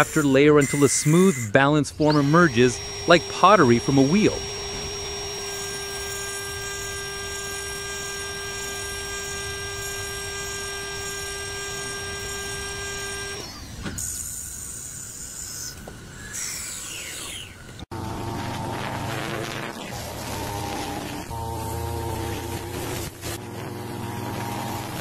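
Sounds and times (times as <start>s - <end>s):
tool cutting spinning wood: 0.0s - 25.0s
wood lathe whine: 0.0s - 25.0s.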